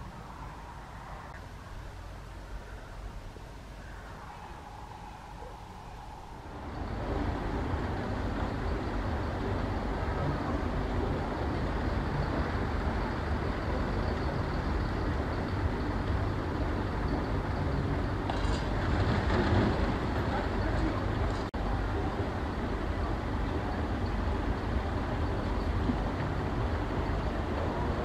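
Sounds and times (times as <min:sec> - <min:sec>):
low rumble: 0:00.0 - 0:28.0
engine running: 0:05.5 - 0:28.0.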